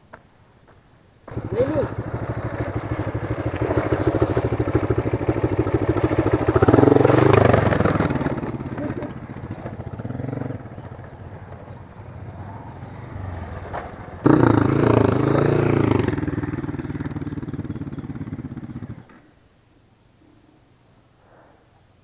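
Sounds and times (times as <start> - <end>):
motorcycle engine revving: 1.3 - 19.1.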